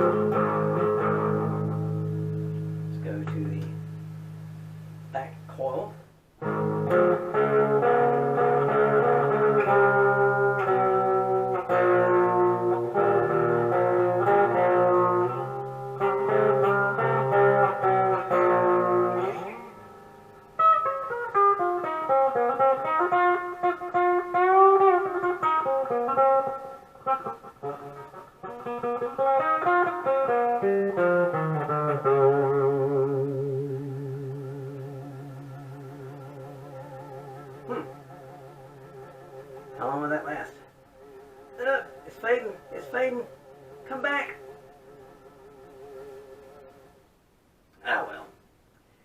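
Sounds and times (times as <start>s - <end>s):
overdriven electric guitar chords: 0.0s - 47.2s
electric guitar lead with bends: 0.0s - 48.2s.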